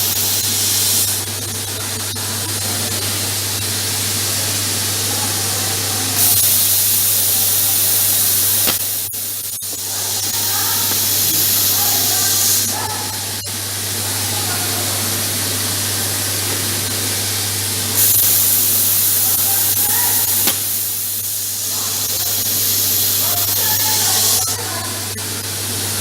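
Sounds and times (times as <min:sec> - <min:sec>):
plasma cutting torch hissing: 0:00.0 - 0:05.1, 0:06.1 - 0:14.5, 0:15.3 - 0:25.4.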